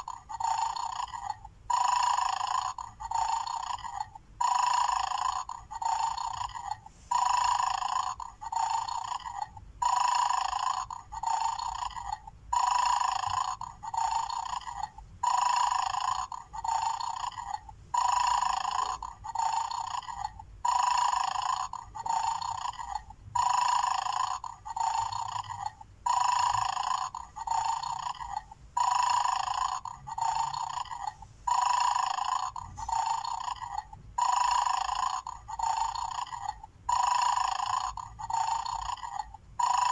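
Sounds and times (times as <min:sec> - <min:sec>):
electronic toy snoring: 0:00.0 - 0:39.9.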